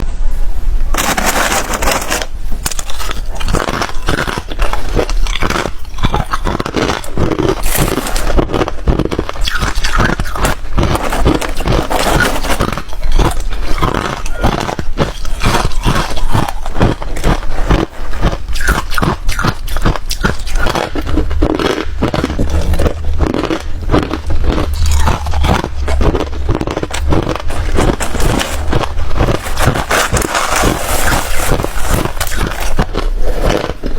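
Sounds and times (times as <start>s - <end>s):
ice being crunched by teeth: 1.0s - 33.9s.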